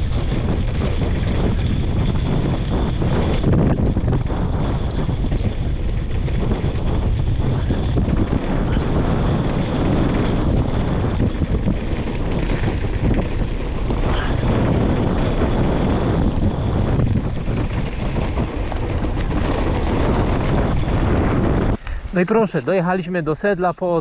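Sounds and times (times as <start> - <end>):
bike rolling over rough ground: 0.0 - 24.0
wind buffeting microphone: 0.0 - 24.0.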